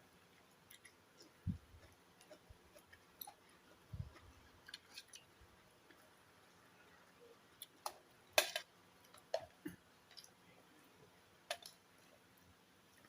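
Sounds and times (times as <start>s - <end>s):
quiet chewing: 0.2s - 8.1s, 9.0s - 13.0s.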